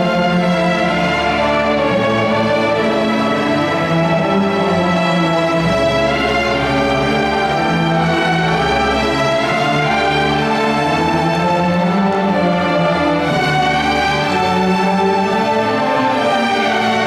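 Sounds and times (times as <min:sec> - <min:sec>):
orchestra playing classical passage: 0:00.0 - 0:17.0.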